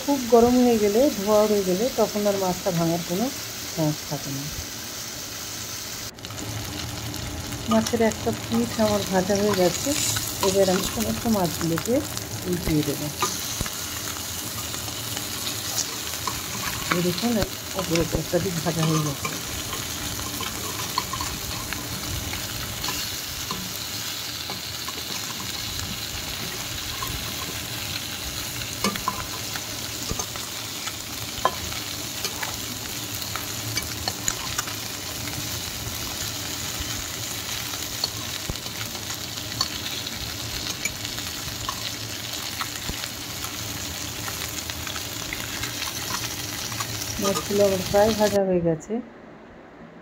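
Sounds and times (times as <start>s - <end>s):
fish sizzling in hot oil: 0.0s - 48.4s.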